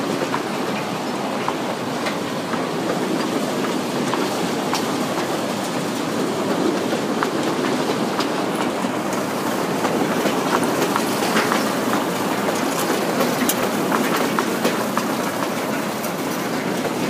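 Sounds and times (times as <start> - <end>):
train wheels rolling on rails: 0.0 - 17.0
wagons clicking and clanking: 0.0 - 17.0.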